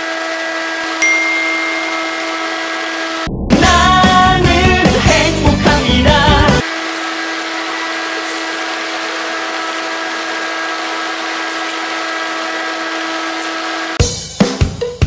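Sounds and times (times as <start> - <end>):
blower fan rushing air: 0.0 - 5.5, 6.1 - 14.0
motor hum: 0.0 - 14.0.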